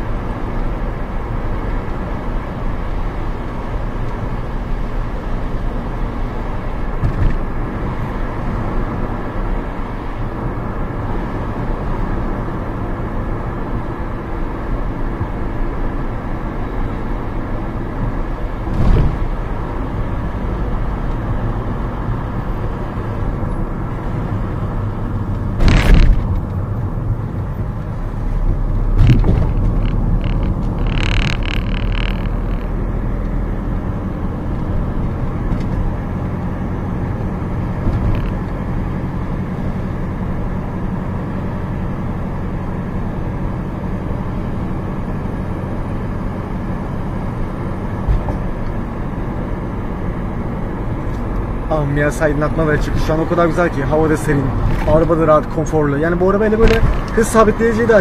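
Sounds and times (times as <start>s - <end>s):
car interior road noise: 0.0s - 58.0s.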